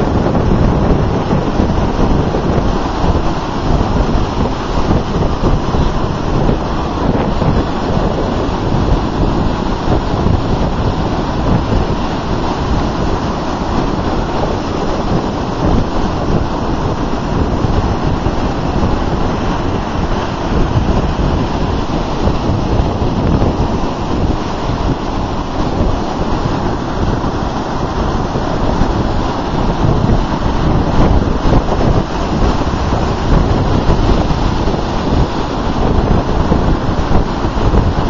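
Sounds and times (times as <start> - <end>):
ocean surf breaking: 0.0 - 38.0.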